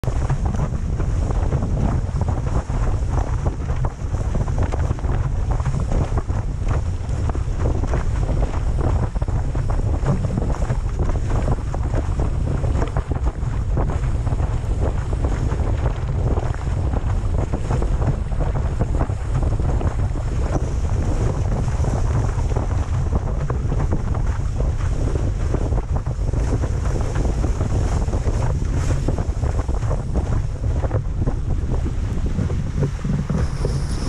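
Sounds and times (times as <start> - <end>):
rushing water: 0.0 - 34.0
wind buffeting microphone: 0.0 - 34.0.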